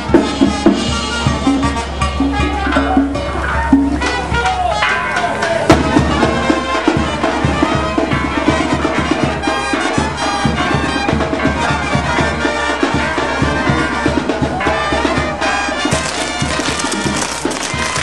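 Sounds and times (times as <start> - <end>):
brass band playing: 0.0 - 18.0
drums beating: 0.0 - 18.0.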